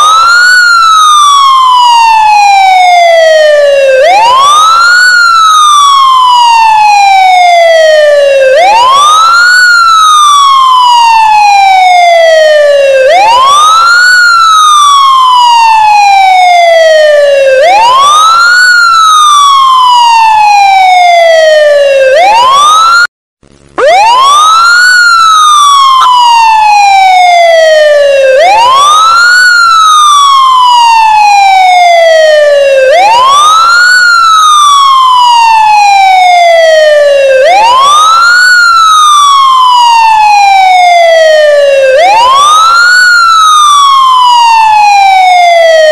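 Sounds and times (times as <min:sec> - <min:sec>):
ambulance siren wailing: 0:00.0 - 0:23.1, 0:23.7 - 0:45.9.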